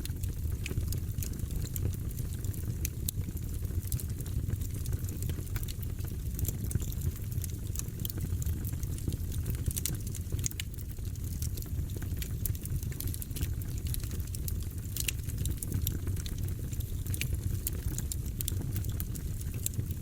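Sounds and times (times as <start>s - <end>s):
fire low rumble: 0.0s - 20.0s
logs crackling and popping: 0.0s - 20.0s.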